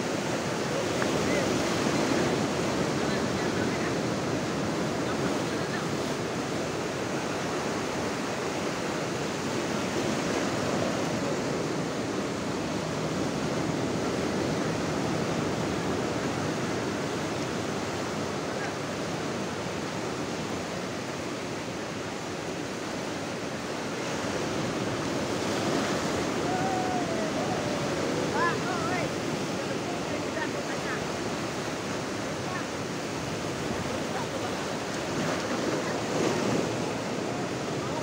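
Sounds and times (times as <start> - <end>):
ocean surf breaking on beach: 0.0 - 38.0.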